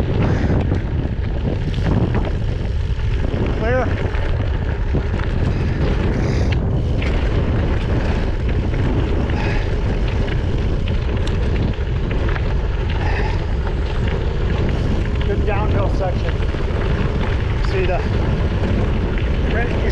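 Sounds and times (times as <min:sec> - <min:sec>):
bicycle tyres rolling: 0:00.0 - 0:19.9
bike clicks and rattles: 0:00.0 - 0:19.9
wind buffeting microphone: 0:00.0 - 0:19.9.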